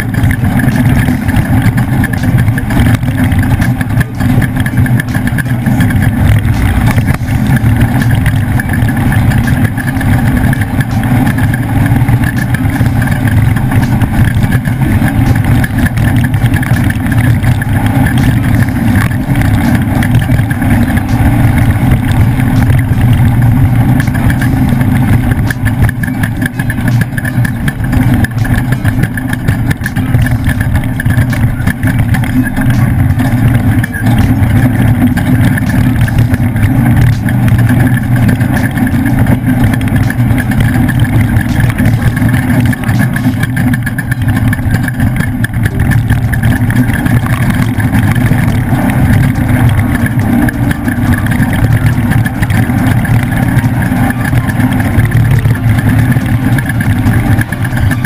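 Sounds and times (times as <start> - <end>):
knocks and rattles: 0.0 - 58.0
truck engine running hard: 0.0 - 58.0.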